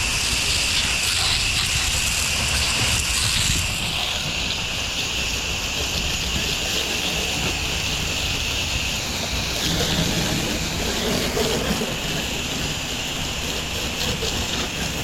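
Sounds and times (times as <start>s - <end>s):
high-pressure water spray hiss: 0.0s - 15.0s
low engine rumble: 1.7s - 15.0s.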